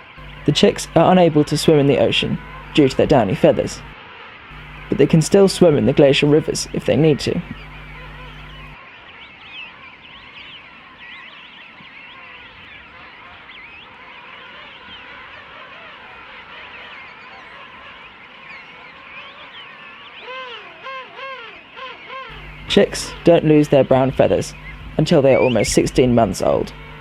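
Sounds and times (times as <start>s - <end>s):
penguin colony calling: 0.0s - 27.0s.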